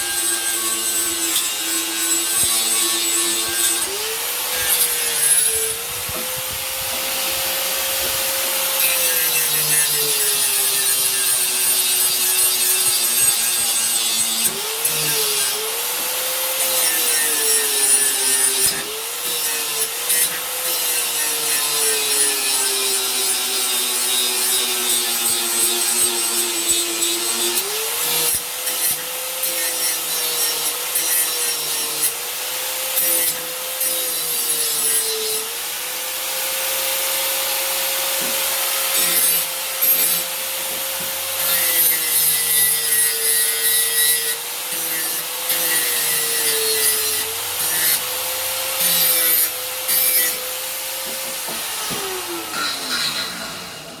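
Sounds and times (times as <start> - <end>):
power tool grinding steel: 0.0 - 54.0.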